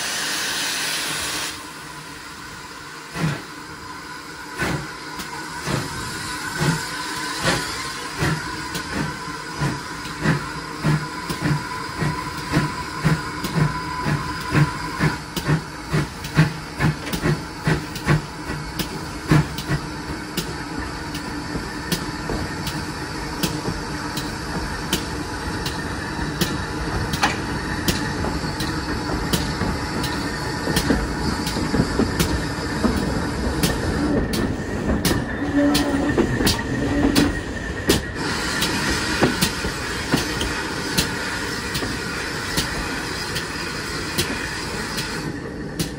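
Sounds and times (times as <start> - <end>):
steam train running on rails: 0.0 - 45.9.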